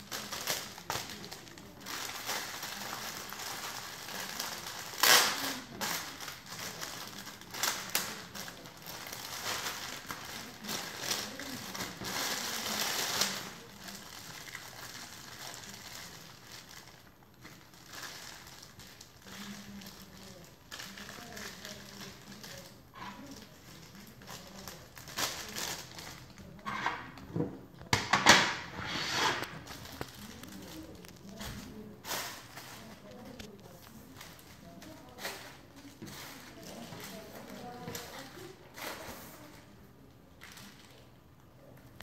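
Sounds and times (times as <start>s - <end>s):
plastic bags crinkling: 0.0s - 27.2s, 29.4s - 39.8s, 40.4s - 41.2s.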